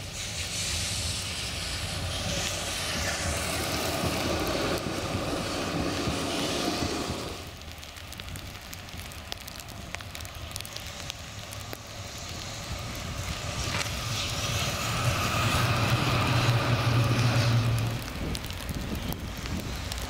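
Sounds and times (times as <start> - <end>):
tram rumbling along rails: 0.0 - 7.6, 11.1 - 20.0.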